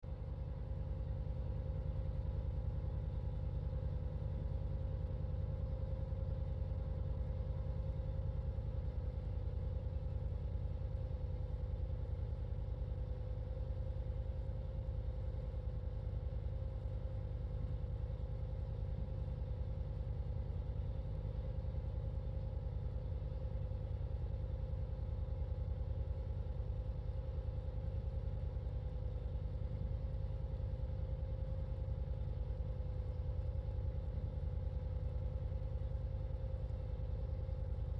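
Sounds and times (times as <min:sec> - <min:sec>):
steady hum: 0:00.1 - 0:37.9.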